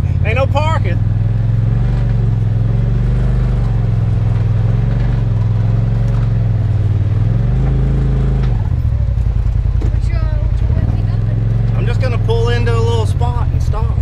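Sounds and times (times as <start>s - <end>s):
vehicle engine at low revs: 0.0s - 14.0s.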